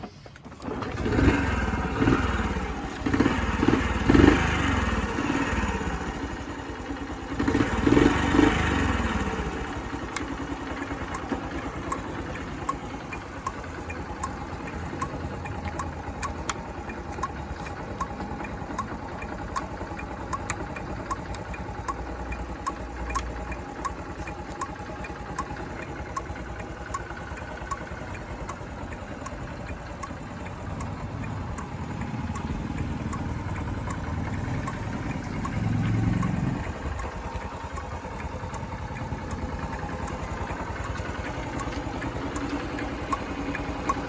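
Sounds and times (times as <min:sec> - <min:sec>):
motorbike engine revving and idling: 0:00.0 - 0:44.0.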